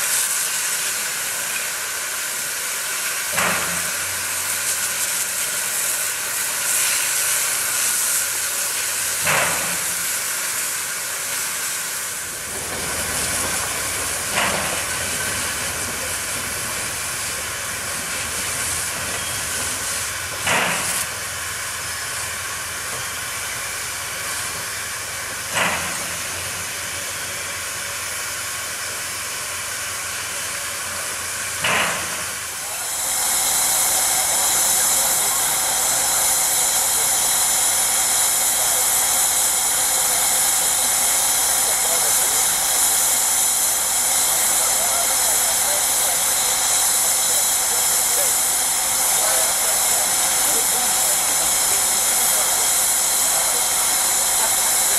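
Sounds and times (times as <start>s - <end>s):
short steam puffs: 0.0s - 54.9s
steam locomotive hissing: 0.0s - 54.9s.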